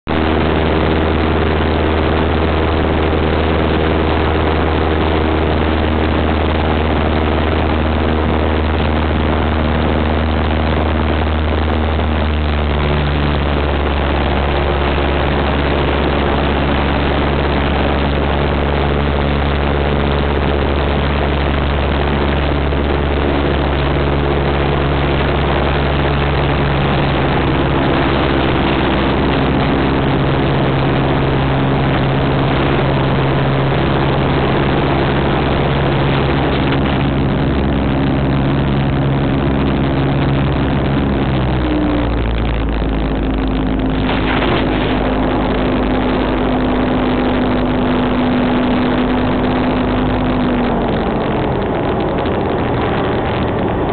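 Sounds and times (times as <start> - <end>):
propeller plane engine running: 0.0 - 53.9
air rushing noise: 0.1 - 53.9.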